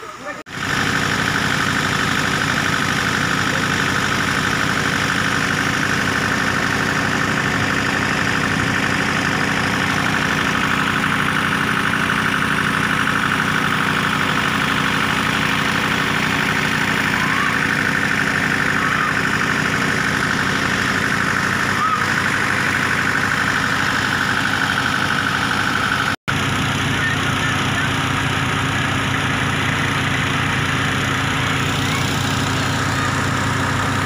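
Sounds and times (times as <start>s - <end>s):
diesel tractor engine running: 0.0s - 34.0s
water pump high whine: 0.0s - 34.0s.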